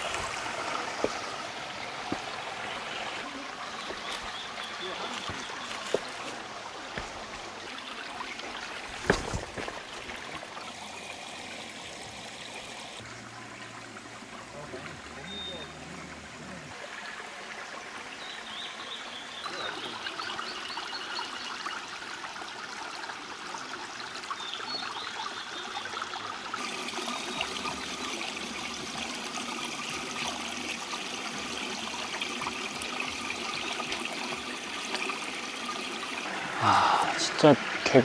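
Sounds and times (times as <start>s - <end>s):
stream babbling over rocks: 0.0s - 38.0s.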